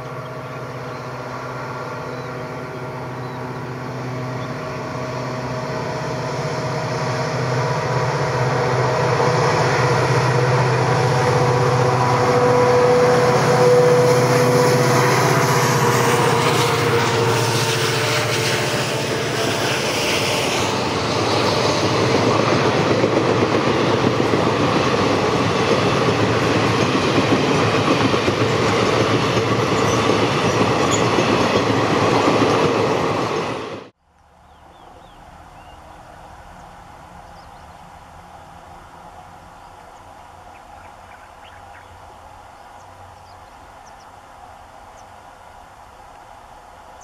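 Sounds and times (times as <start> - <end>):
train rumbling past on rails: 0.0 - 47.0.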